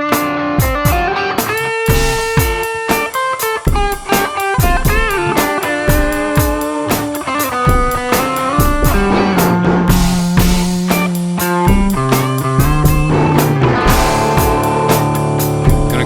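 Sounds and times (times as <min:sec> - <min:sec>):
drum beat: 0:00.0 - 0:16.0
electric guitar lead with bends: 0:00.0 - 0:16.0.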